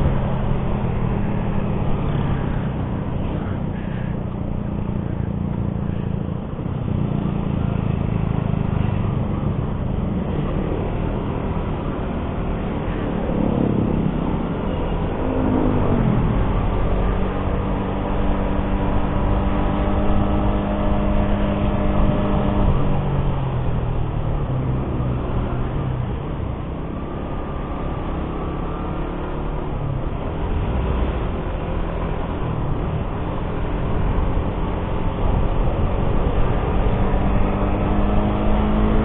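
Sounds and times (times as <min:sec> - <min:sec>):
constant rushing noise: 0:00.0 - 0:39.0.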